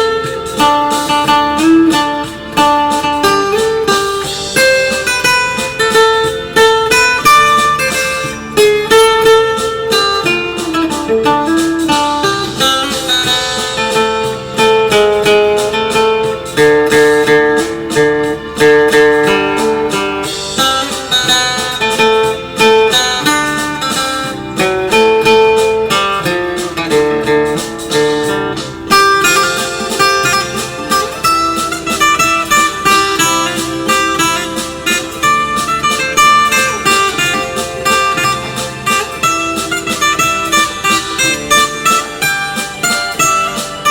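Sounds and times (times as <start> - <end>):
acoustic guitar music: 0.0 - 43.9.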